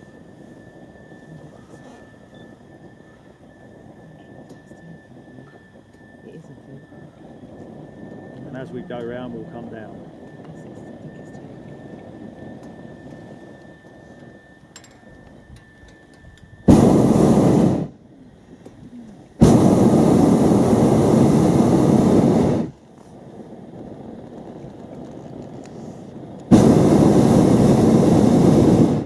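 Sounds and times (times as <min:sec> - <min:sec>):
propane burner blasts: 0:00.0 - 0:29.0.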